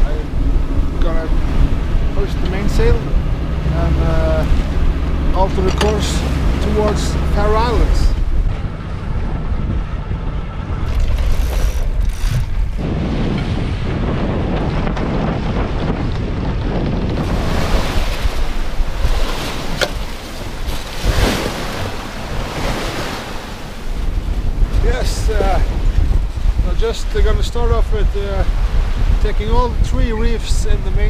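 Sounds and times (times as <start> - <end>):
waves rushing along hull: 0.0 - 31.0
wind buffeting microphone: 0.0 - 31.0.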